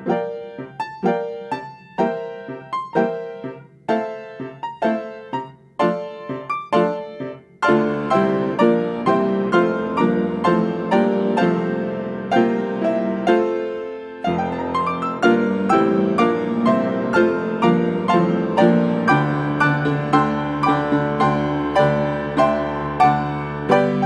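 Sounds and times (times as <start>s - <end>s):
solo piano piece: 0.0s - 24.0s.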